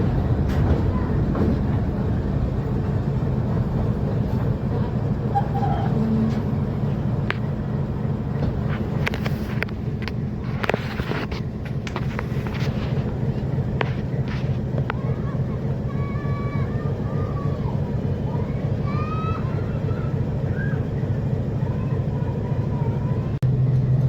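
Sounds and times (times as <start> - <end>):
train clicks and knocks: 0.0 - 24.0
train rumbling: 0.0 - 24.0.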